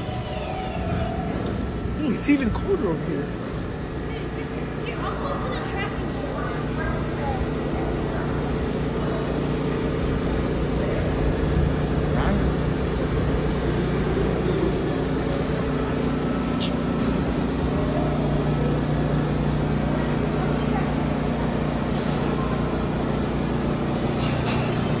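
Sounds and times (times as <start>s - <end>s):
subway train mechanical hum: 0.0s - 25.0s
thin high whine: 0.0s - 25.0s.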